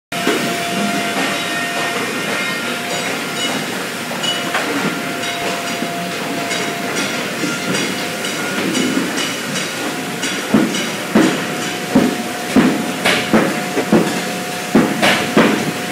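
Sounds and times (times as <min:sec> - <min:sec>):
machinery din: 0:00.1 - 0:15.9
metallic ringing tones: 0:00.2 - 0:15.0.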